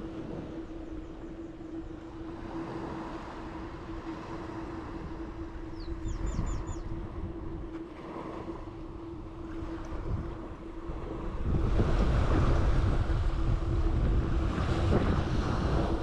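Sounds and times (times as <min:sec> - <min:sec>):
steady mechanical hum: 0:00.0 - 0:16.0
surf: 0:00.0 - 0:16.0
wind: 0:00.0 - 0:16.0
wind rumble on microphone: 0:00.0 - 0:16.0.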